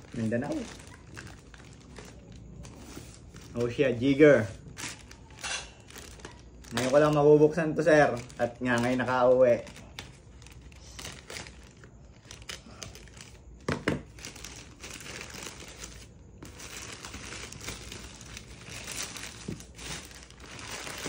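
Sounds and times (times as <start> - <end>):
plastic mailer bag rustling: 0.0 - 21.0.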